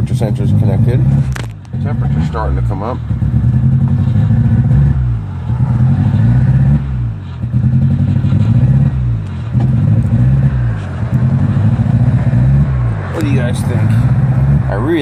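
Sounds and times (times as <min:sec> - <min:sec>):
car engine running rough: 0:00.0 - 0:15.0.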